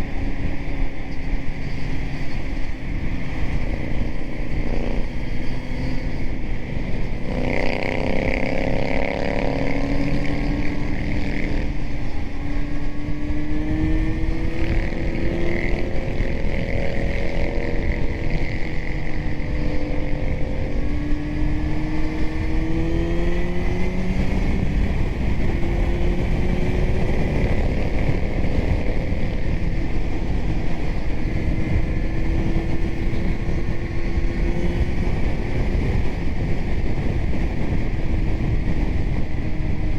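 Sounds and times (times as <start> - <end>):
heavy wind rush: 0.0 - 39.9
motorcycle engine running: 0.0 - 39.9.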